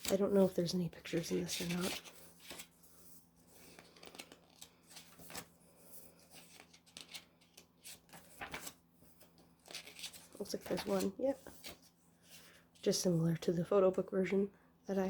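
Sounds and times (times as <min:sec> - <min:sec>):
paper rustling: 0:00.0 - 0:12.6.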